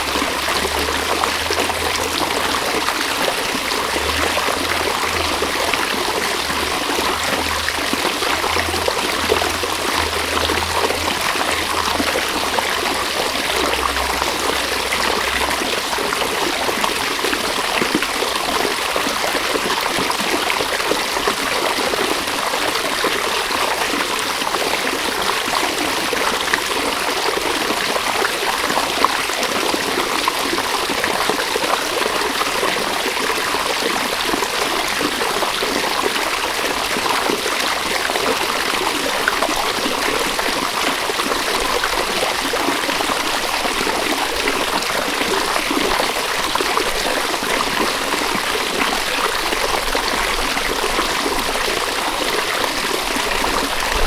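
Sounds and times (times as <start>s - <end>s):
river running over stones: 0.0s - 54.0s.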